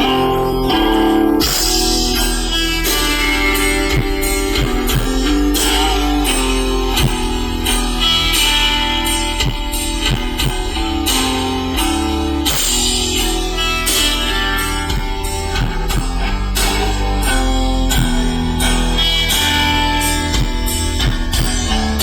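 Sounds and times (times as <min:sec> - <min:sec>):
guitar strummed and picked: 0:00.0 - 0:22.0
low bass: 0:00.0 - 0:22.0
sharp percussive hits: 0:00.7 - 0:22.0.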